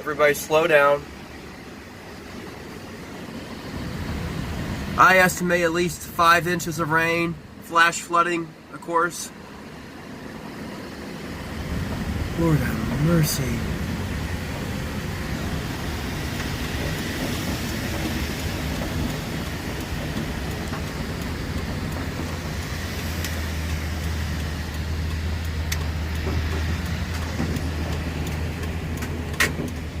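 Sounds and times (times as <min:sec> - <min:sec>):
car driving on wet road: 0:00.0 - 0:30.0.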